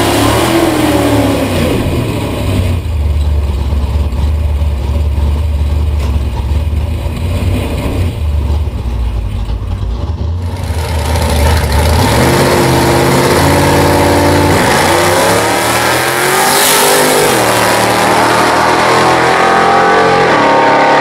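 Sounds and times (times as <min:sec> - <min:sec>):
drag car engine revving: 0:00.0 - 0:21.0.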